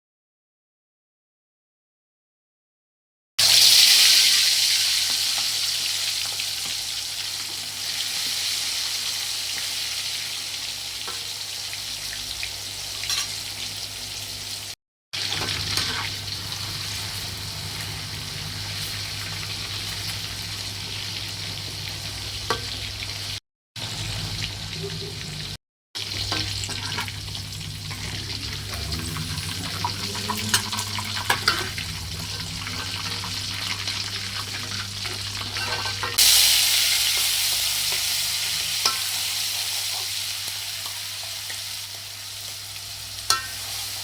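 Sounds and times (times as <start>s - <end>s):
chicken sizzling in hot oil: 3.4s - 44.0s.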